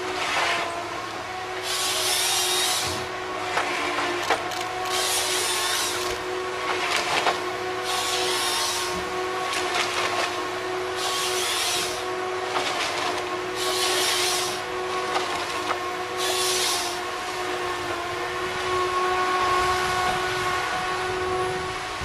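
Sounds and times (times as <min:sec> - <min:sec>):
harvester machine whine: 0:00.0 - 0:22.0.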